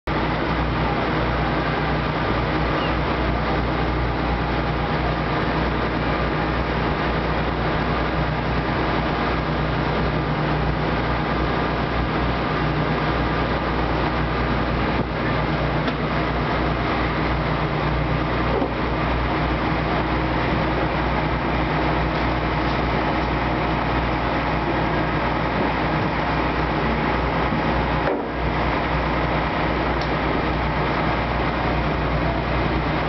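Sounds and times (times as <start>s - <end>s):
boat engine hum: 0.0s - 33.0s
constant rushing noise: 0.1s - 33.0s.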